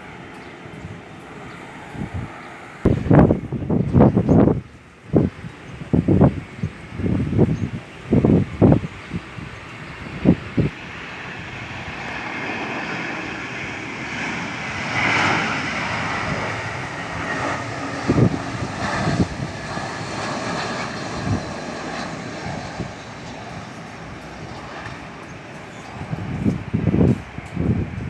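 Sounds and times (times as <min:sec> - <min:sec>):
airliner engine noise: 0:00.0 - 0:28.0.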